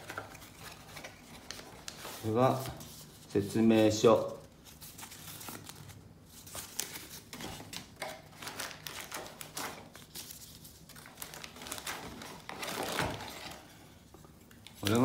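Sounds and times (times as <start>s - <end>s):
paper and cardboard rustling: 0.0s - 14.1s.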